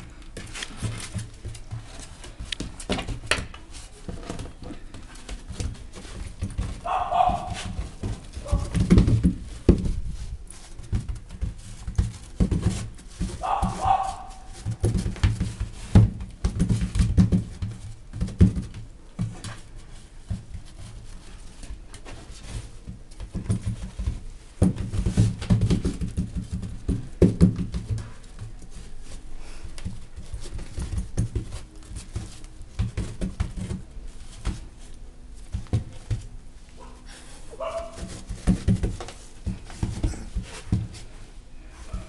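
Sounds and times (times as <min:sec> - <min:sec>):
puppy scrambling on grass mat: 0:00.0 - 0:42.0.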